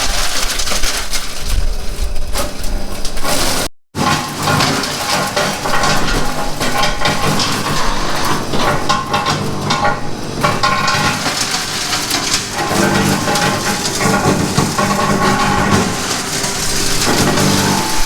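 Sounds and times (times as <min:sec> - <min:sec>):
wood crackling in chipper: 0:00.0 - 0:18.0
wood chipper engine: 0:01.7 - 0:18.0.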